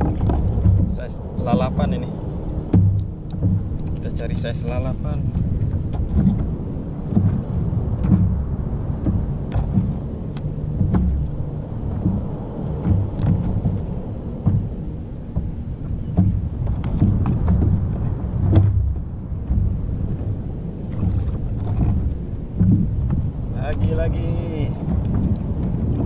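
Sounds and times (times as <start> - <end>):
water lapping against boat hull: 0.0 - 26.0
wind rumble on microphone: 0.0 - 26.0.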